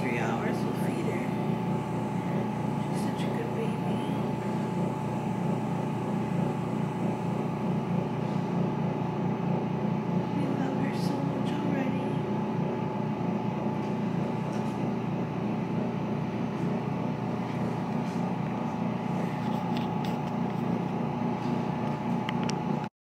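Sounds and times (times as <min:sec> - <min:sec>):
steady low hum: 0:00.0 - 0:22.9
thin steady whine: 0:00.0 - 0:22.9.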